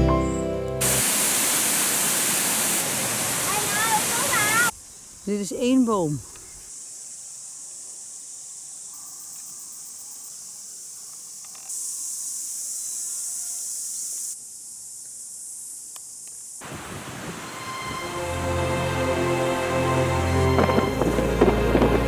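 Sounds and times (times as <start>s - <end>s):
insect chorus: 3.5s - 22.0s.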